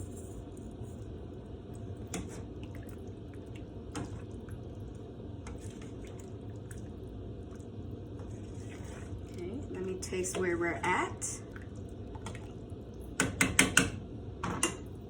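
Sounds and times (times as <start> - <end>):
broth boiling and bubbling: 0.0 - 15.0.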